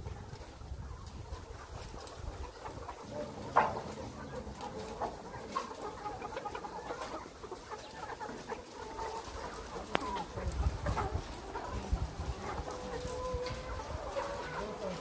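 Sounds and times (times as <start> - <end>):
hens clucking and calling: 0.0 - 15.0.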